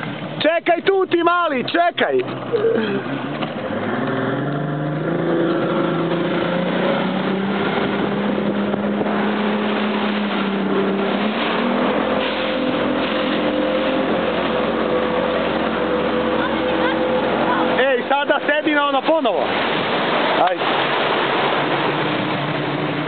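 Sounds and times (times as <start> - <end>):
motorboat engine running: 0.0 - 23.0
water noise: 0.0 - 23.0.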